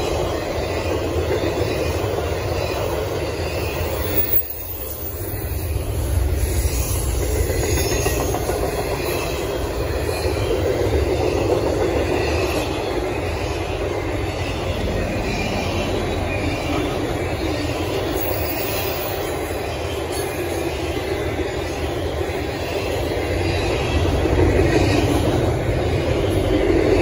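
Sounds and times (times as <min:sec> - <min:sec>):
freight train wheels rumbling on rails: 0:00.0 - 0:27.0.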